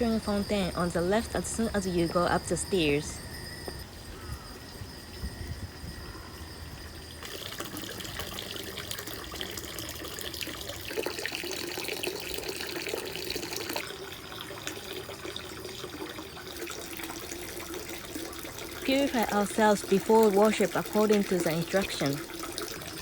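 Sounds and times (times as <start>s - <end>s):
water running into basin: 0.0s - 3.7s, 6.1s - 23.0s.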